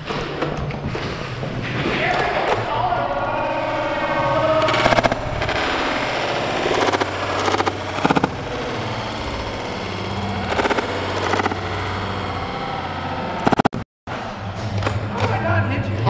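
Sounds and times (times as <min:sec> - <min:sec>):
steady low hum: 0:02.6 - 0:16.0.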